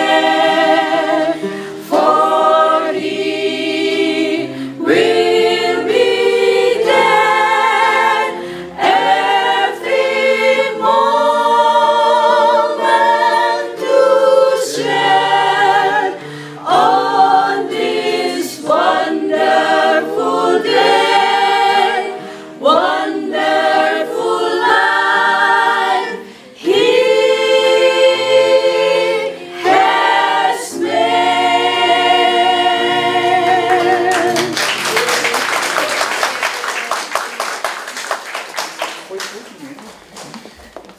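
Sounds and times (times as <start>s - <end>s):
mixed choir singing: 0.0s - 36.6s.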